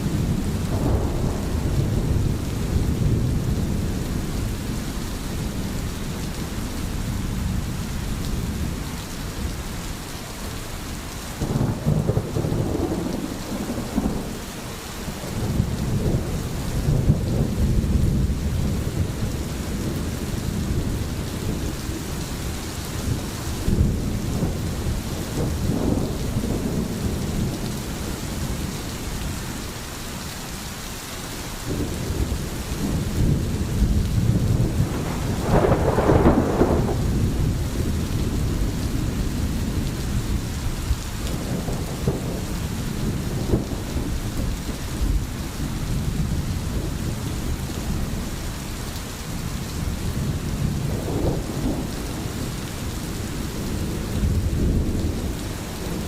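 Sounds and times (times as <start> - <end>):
low rolling thunder: 0.0 - 10.0, 11.3 - 29.5, 31.6 - 56.0
steady rain: 0.0 - 56.0.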